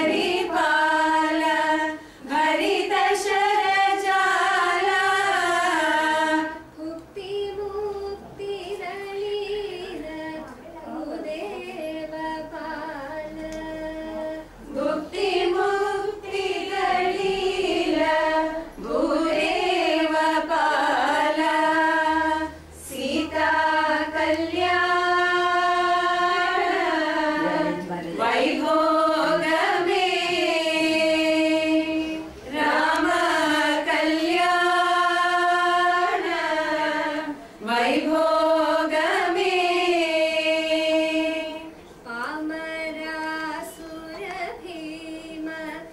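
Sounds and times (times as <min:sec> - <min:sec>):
women singing in unison: 0:00.0 - 0:45.9.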